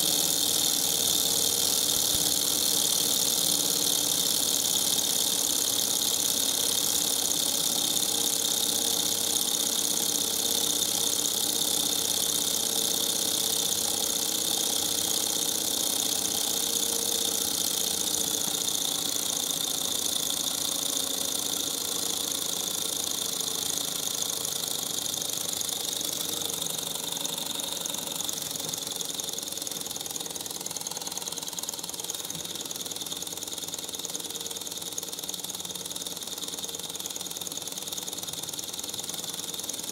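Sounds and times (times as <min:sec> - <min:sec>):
small engine mechanical clatter: 0:00.0 - 0:39.9.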